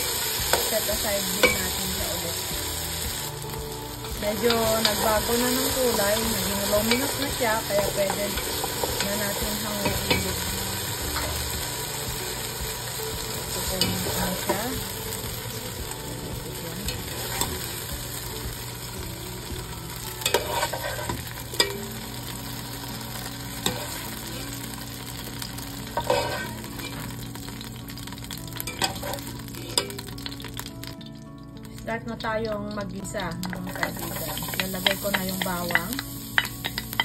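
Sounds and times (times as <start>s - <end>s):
oil sizzling in a pan: 0.0s - 37.0s.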